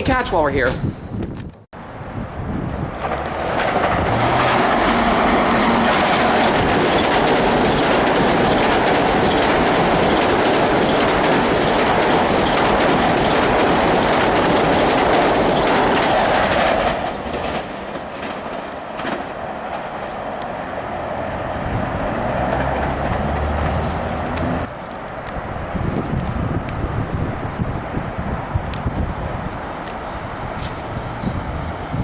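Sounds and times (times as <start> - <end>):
wheels clattering over rail joints: 0.6 - 32.0
train passing at speed: 1.8 - 32.0.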